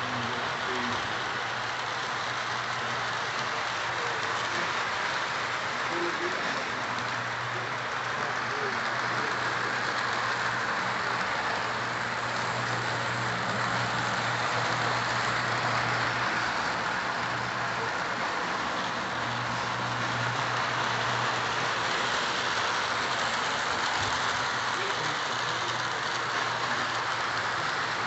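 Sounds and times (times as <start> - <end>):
model train wheels rattling: 0.0 - 28.0.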